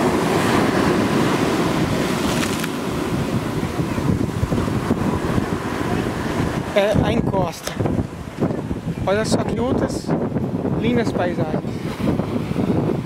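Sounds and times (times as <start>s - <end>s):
ocean surf on sand beach: 0.0s - 13.0s
wind buffeting microphone: 0.0s - 13.0s.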